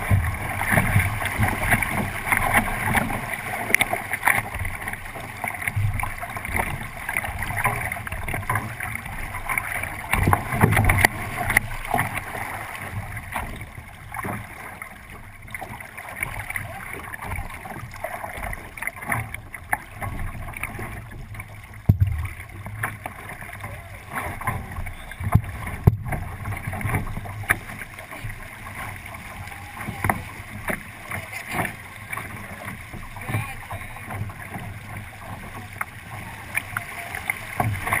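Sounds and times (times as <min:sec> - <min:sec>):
thuds and knocks through hull: 0:00.0 - 0:38.0
water rushing along boat hull: 0:00.0 - 0:38.0.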